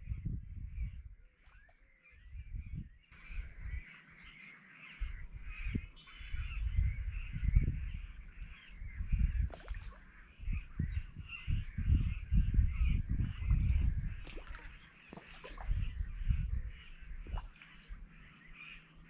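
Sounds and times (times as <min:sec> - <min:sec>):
wind gusts on microphone: 0:00.0 - 0:04.3, 0:04.9 - 0:19.0
birds chattering: 0:02.7 - 0:19.0.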